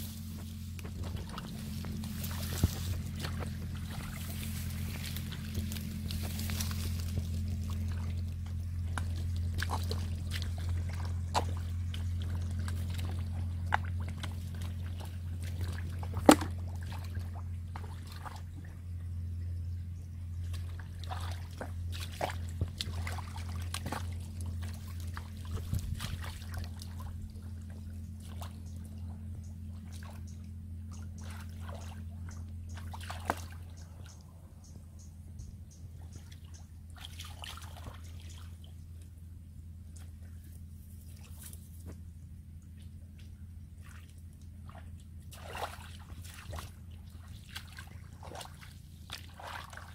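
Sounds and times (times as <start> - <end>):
wet squelches and splashes: 0.0 - 18.9, 20.2 - 34.3, 36.0 - 39.2, 39.8 - 49.9
sloshing in muddy water: 0.0 - 34.8, 35.7 - 49.9
steady low hum: 0.0 - 49.9.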